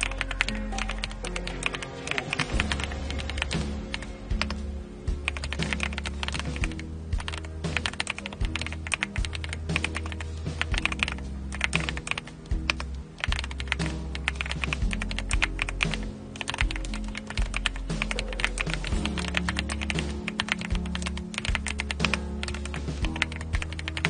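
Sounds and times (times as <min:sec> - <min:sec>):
mechanical keyboard typing: 0:00.0 - 0:04.6, 0:05.2 - 0:24.0
background music with bass line: 0:00.0 - 0:24.0.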